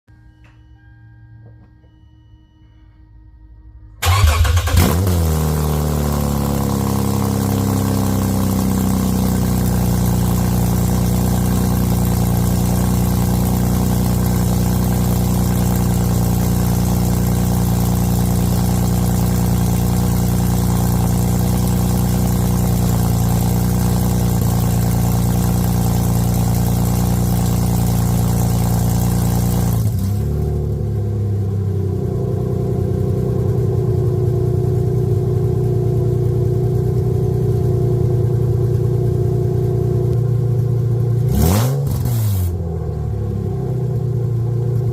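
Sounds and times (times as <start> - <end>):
car engine starting and idling: 0.2 - 44.9.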